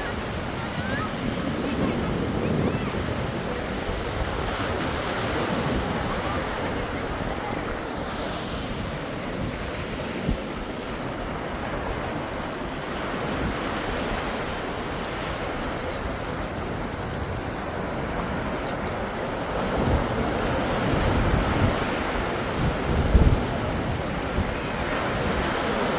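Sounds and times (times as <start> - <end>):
waves breaking on sandy beach: 0.0 - 25.9
wind buffeting microphone: 0.0 - 25.9.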